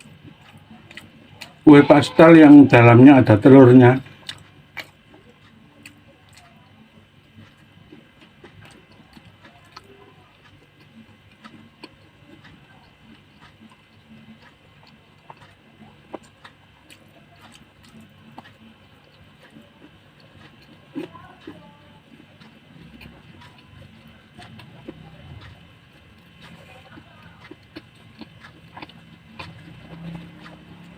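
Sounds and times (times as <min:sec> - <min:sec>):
faint steady hum: 0:00.0 - 0:30.9
quiet chewing: 0:00.0 - 0:30.9.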